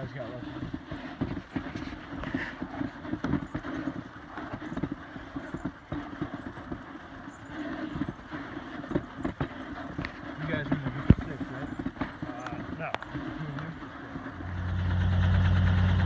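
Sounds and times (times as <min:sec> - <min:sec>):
sled runners scraping snow: 0:00.0 - 0:16.0.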